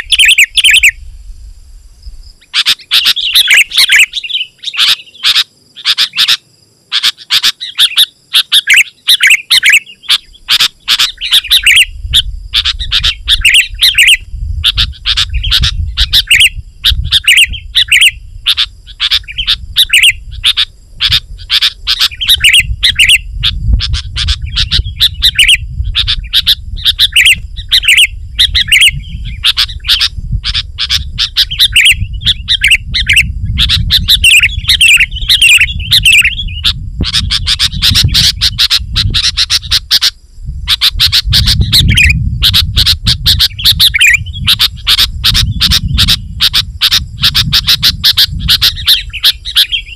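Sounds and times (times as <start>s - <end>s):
bird singing: 0.0s - 1.3s, 2.0s - 49.9s
steady low rumble: 0.9s - 2.4s, 11.1s - 49.9s.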